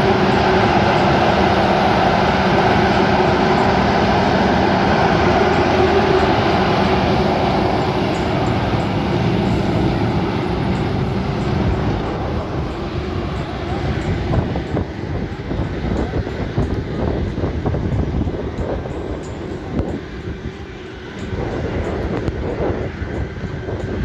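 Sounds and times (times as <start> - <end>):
combine harvester engine running: 0.0 - 24.0.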